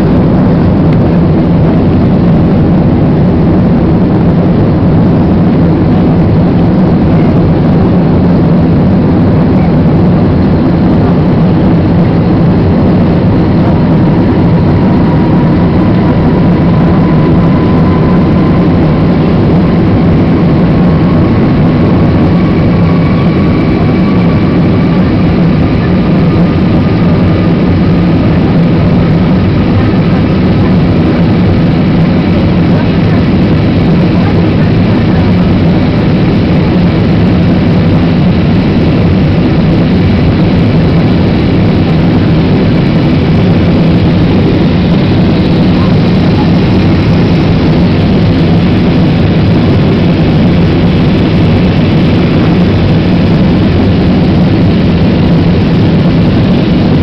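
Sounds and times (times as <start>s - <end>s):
faint rising whine: 0.0s - 57.0s
jet engine drone and rushing air: 0.0s - 57.0s.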